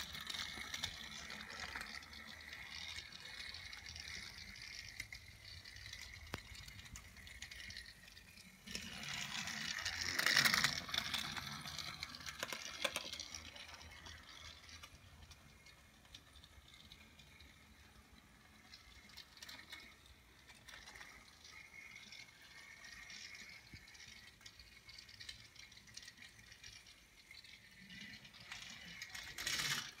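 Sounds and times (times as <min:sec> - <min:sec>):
toy train motor whirring: 0:00.0 - 0:30.0
wheels rattling over plastic track: 0:00.0 - 0:30.0.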